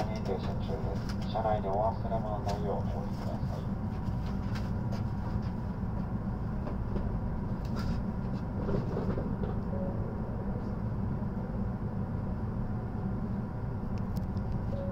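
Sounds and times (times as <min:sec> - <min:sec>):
low hum inside train: 0:00.0 - 0:14.9.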